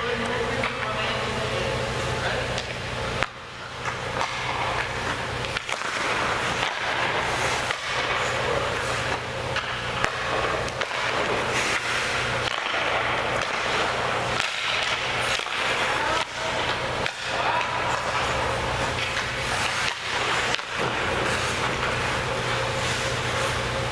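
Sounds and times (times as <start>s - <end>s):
skate blades scraping ice: 2.6s - 23.9s.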